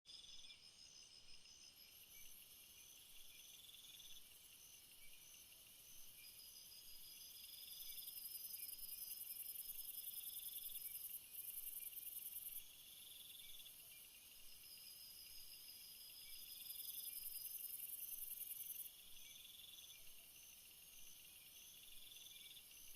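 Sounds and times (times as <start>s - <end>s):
crickets and insects trilling: 0.9s - 22.9s.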